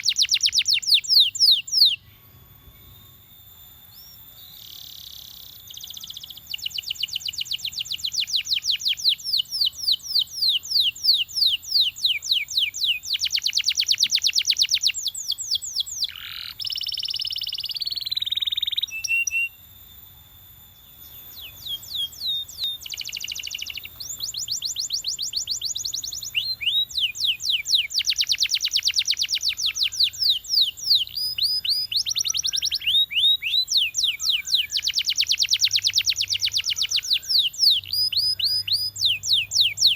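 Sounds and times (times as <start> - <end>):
canary singing: 0.0 - 19.7, 20.7 - 39.9.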